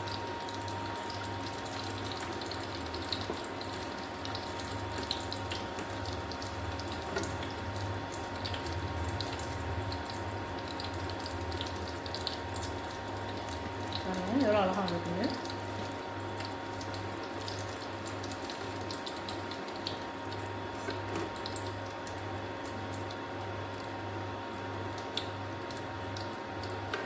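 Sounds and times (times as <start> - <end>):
oil sizzling with pops: 0.0 - 27.0.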